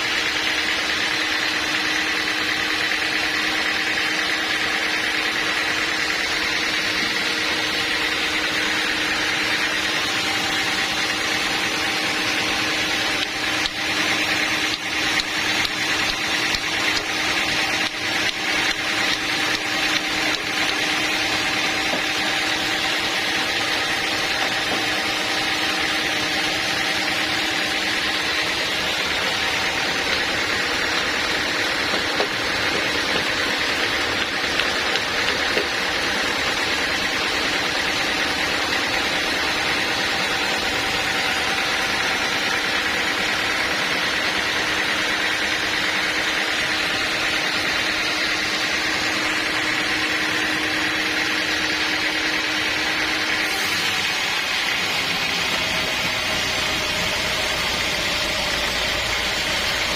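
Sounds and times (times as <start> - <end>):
high mechanical whine: 0.0 - 59.9
sawmill machinery humming: 0.0 - 59.9.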